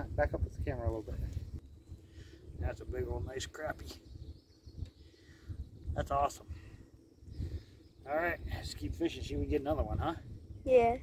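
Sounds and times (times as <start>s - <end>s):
faint outdoor background hiss: 0.0s - 11.0s
wind buffeting microphone: 0.0s - 11.0s.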